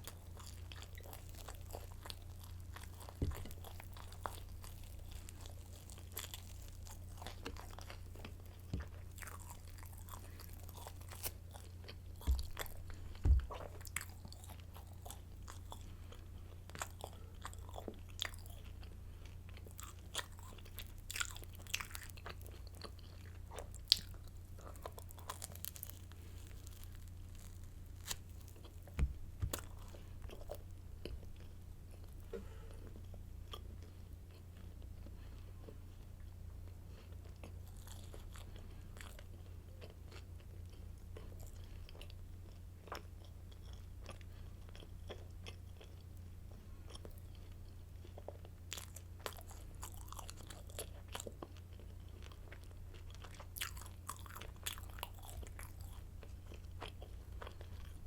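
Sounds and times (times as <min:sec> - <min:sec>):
crunchy bread being chewed: 0:00.0 - 0:58.0
steady low hum: 0:00.0 - 0:58.0.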